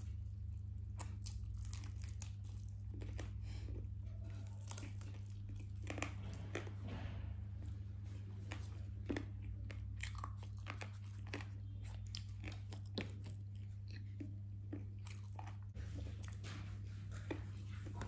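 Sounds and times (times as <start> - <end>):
chewing crunchy food: 0.0 - 18.0
steady low hum: 0.0 - 18.0.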